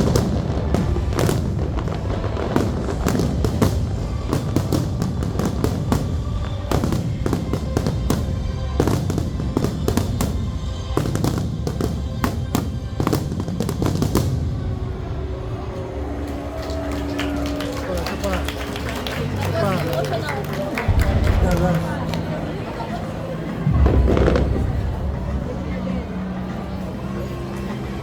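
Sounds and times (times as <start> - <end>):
fireworks bursting and crackling: 0.0 - 26.6
loud music: 0.0 - 27.5.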